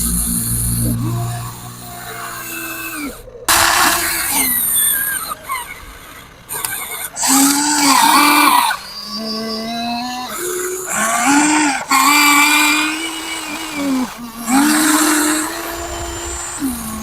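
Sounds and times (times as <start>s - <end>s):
toy excavator electric motors whining: 0.0s - 17.0s.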